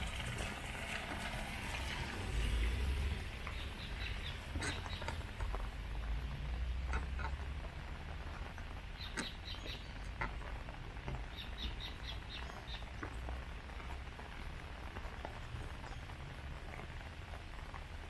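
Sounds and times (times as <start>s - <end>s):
raindrops tapping: 0.0s - 18.0s
steady rain: 0.0s - 18.0s.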